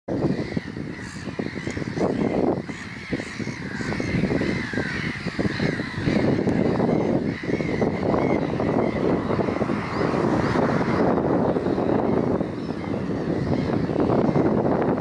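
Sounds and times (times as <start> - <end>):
birds calling: 0.1 - 15.0
wind buffeting microphone: 0.1 - 15.0.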